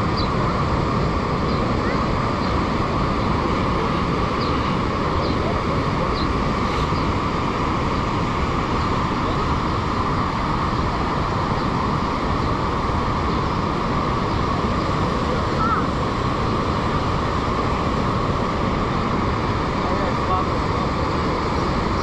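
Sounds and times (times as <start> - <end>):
whitewater rapids rushing: 0.0 - 22.0.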